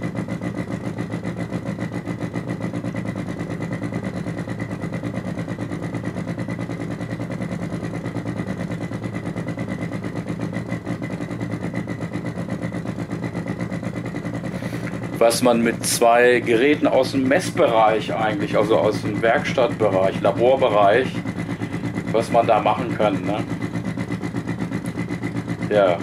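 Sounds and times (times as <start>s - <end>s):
pulsing low synthetic buzz: 0.0s - 26.0s.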